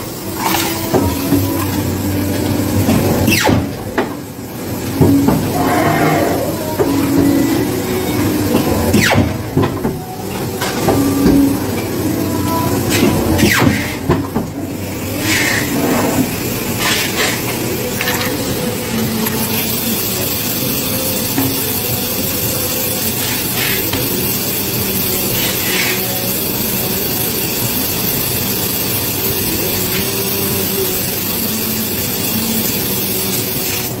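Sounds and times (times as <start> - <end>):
machinery humming and hissing: 0.0 - 34.0.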